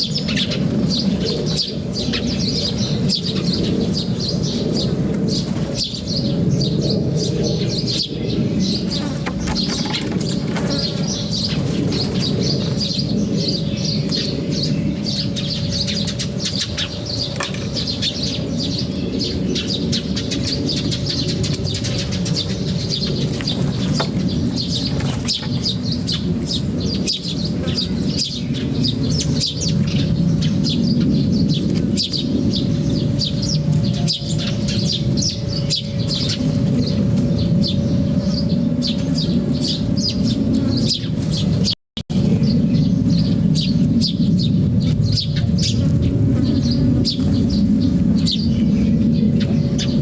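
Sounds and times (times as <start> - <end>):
faint hum: 0.0 - 50.0
small birds chirping: 0.0 - 50.0.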